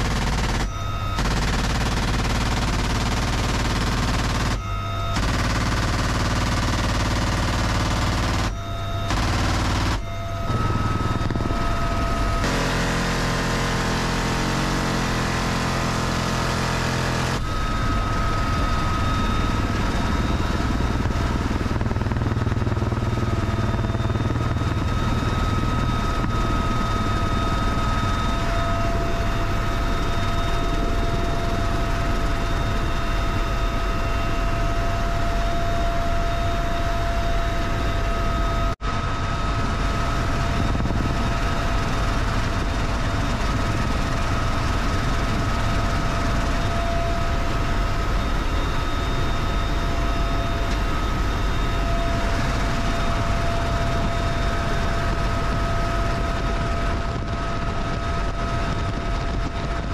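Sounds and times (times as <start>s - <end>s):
helicopter rotor and engine noise: 0.0s - 59.9s
high whine: 0.0s - 59.9s.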